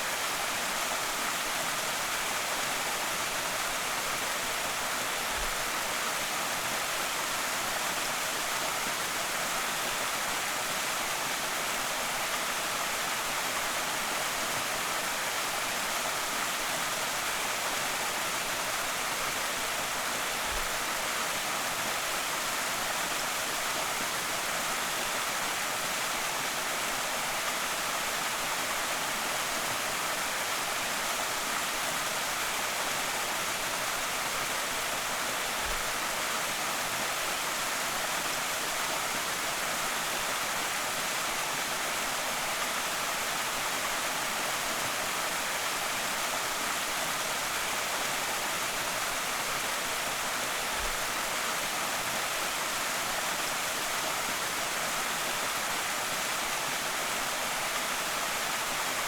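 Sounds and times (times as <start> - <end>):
waterfall splashing and rushing: 0.0 - 59.0.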